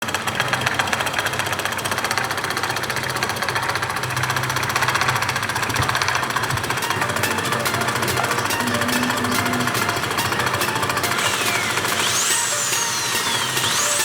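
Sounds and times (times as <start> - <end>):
electric motor rattling and humming: 0.1 - 14.0.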